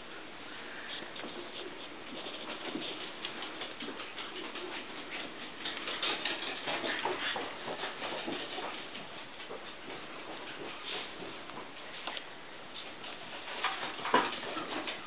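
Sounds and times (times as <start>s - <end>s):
puppy paws pattering: 0.7s - 15.0s.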